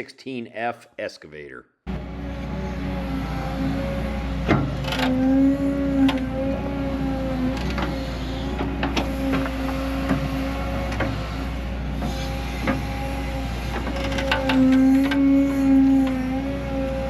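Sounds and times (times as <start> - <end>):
excavator engine hum: 1.9 - 17.0.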